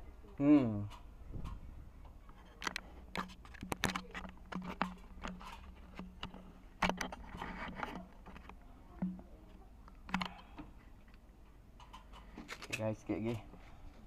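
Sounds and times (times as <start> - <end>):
sharp clicks and knocks: 0.8 - 9.3, 9.9 - 13.4.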